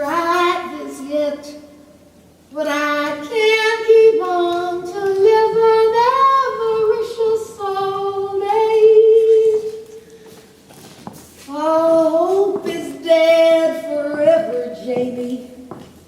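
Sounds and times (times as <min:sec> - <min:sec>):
high voice singing unaccompanied: 0:00.0 - 0:01.8, 0:02.5 - 0:09.9, 0:11.5 - 0:15.8.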